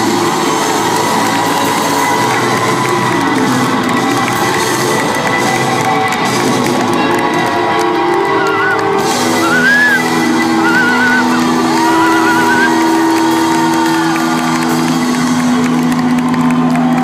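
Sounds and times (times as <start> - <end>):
rock band sustained chords: 0.0 - 17.0.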